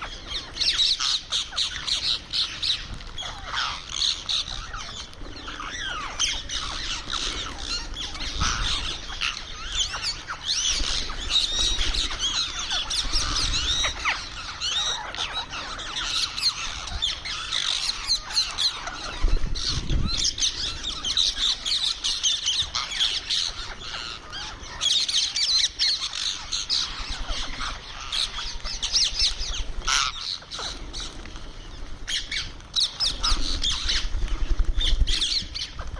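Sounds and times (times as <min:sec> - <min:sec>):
parrot squawking and chirping: 0:00.4 - 0:30.7.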